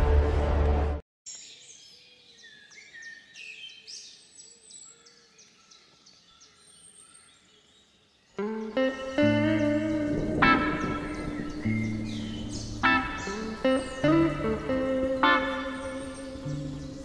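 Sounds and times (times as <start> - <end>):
birds chirping and whistling: 1.3 - 17.0.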